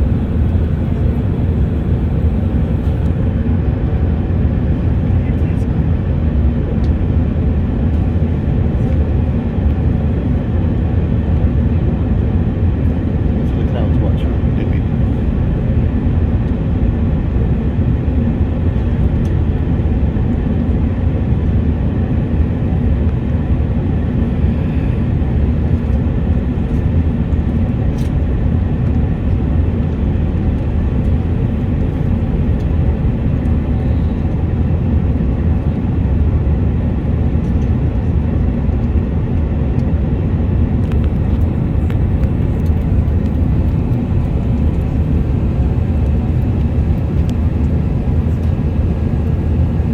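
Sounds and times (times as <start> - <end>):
airplane cabin engine rumble: 0.0 - 49.9.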